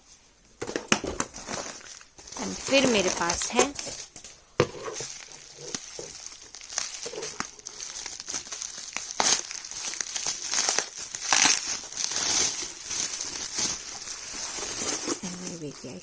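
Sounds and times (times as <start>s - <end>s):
packaging crinkling and rustling: 0.6s - 16.0s.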